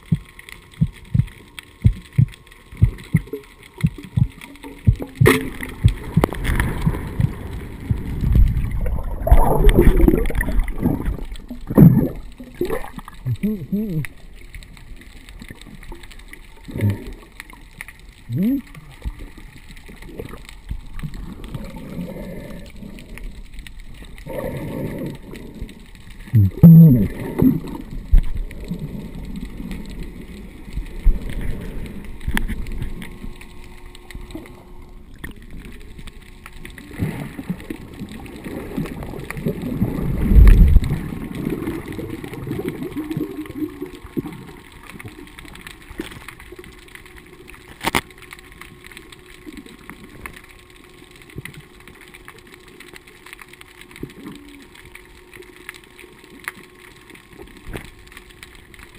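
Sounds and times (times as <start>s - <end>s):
underwater rushing and bubbling: 0.0s - 58.9s.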